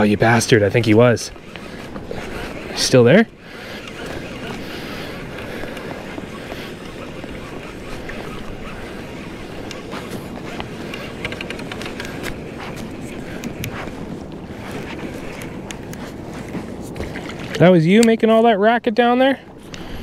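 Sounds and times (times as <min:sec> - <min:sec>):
water lapping around kayak: 0:00.0 - 0:17.7
wind buffeting microphone: 0:00.0 - 0:20.0.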